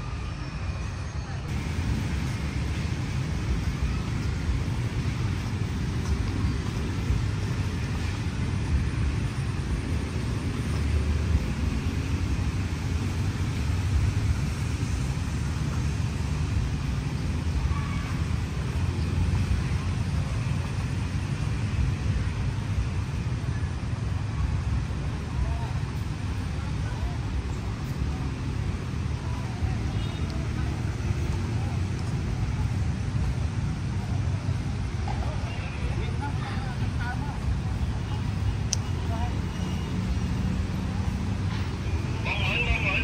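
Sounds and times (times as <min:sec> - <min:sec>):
city traffic hum: 0:00.0 - 0:43.0.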